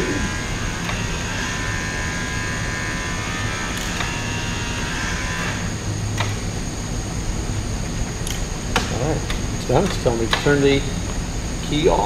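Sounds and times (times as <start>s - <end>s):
pump electric whine: 0.0s - 12.0s.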